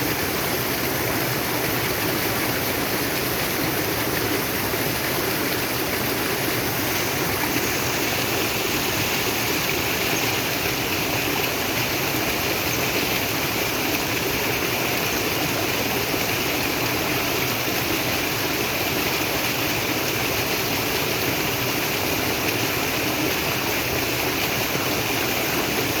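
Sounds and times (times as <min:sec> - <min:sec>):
flowing water: 0:00.0 - 0:26.0.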